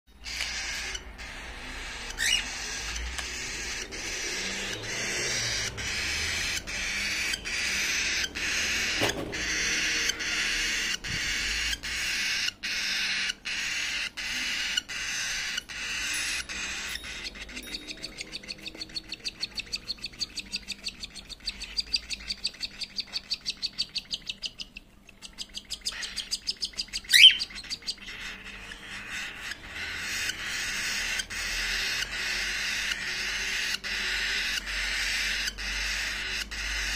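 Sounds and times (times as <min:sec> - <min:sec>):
chicks raspy begging calls: 0:00.2 - 0:36.9.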